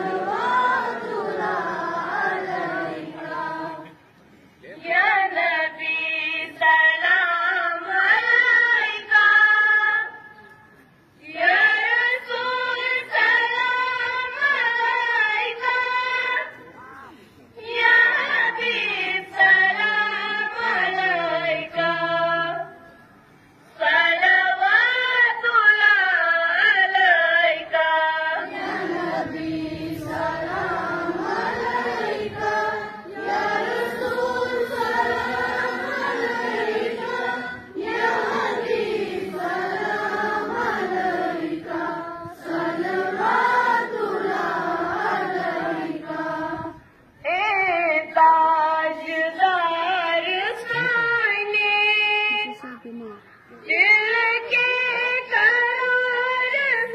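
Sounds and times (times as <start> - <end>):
girls singing in unison: 0.0 - 4.0, 5.0 - 10.2, 11.2 - 16.5, 17.6 - 22.8, 23.8 - 51.6.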